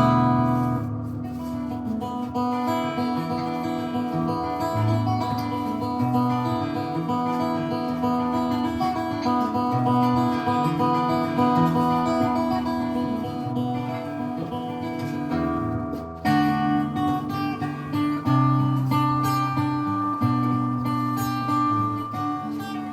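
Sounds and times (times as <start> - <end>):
acoustic guitar strumming: 0.0 - 22.9.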